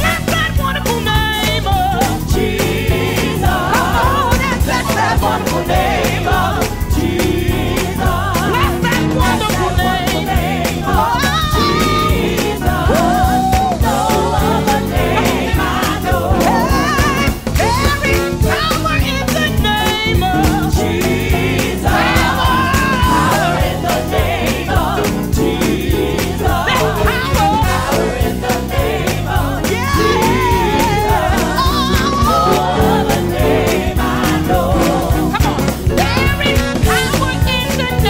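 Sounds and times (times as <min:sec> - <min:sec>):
live gospel band playing: 0:00.0 - 0:38.0.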